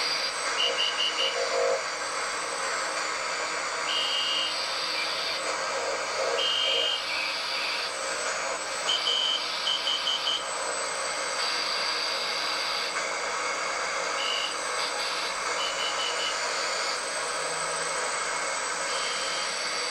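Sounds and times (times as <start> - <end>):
radio static hiss: 0.0 - 10.4, 14.2 - 19.9.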